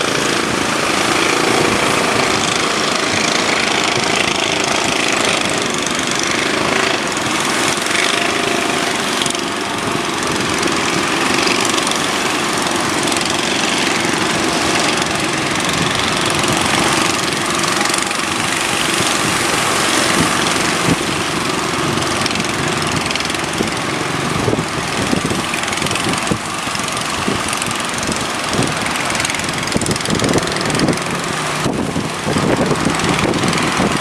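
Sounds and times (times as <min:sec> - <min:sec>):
boat engine running: 0:00.0 - 0:34.0
surf: 0:00.0 - 0:34.0.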